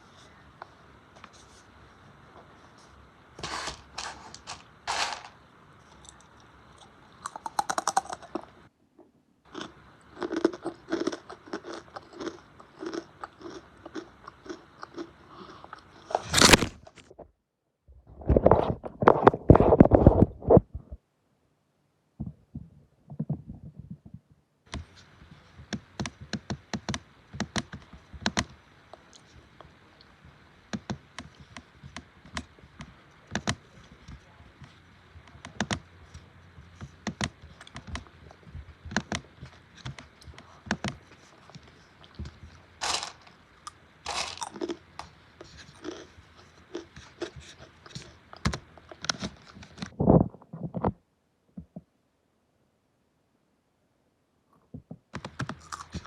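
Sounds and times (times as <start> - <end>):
faint steady hiss: 0.0 - 17.0, 20.9 - 50.0.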